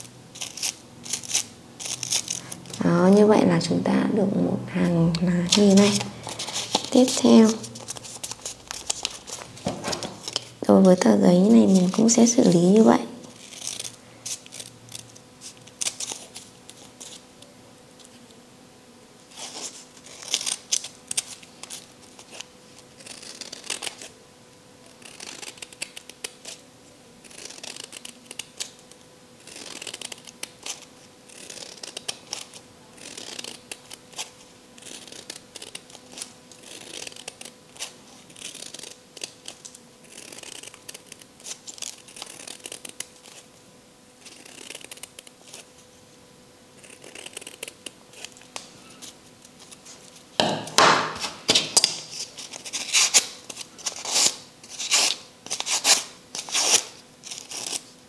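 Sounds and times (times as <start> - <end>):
scissors cutting paper: 0.0 - 3.3, 5.0 - 17.2, 19.4 - 24.1, 24.9 - 26.6, 27.2 - 43.5, 44.2 - 45.7, 46.8 - 49.9, 50.8 - 57.9
faint steady hum: 0.0 - 58.0.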